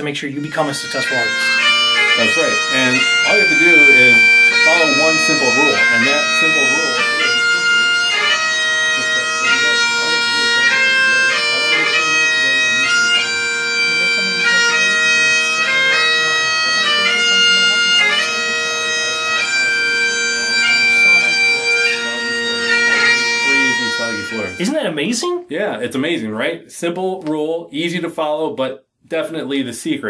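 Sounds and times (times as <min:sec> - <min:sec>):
bagpipe drones humming: 0:00.0 - 0:25.2
bagpipe chanter melody: 0:00.0 - 0:25.5.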